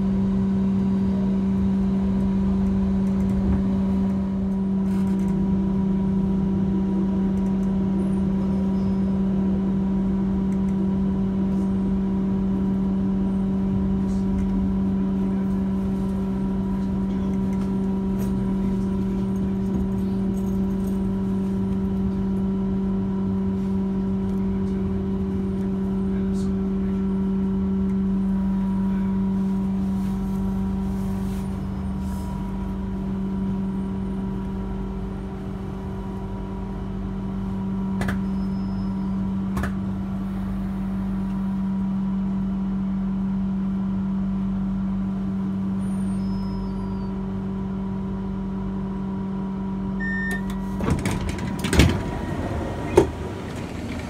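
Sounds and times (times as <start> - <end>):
train running inside carriage: 0.0 - 49.4, 50.0 - 54.0.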